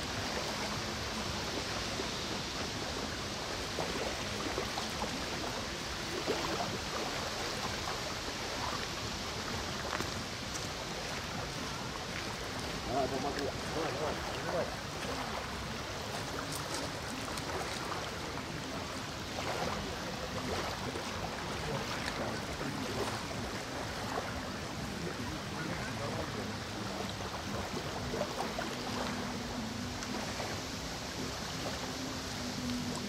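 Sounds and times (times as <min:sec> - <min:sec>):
river water: 0:00.0 - 0:33.0
wind: 0:00.0 - 0:33.0.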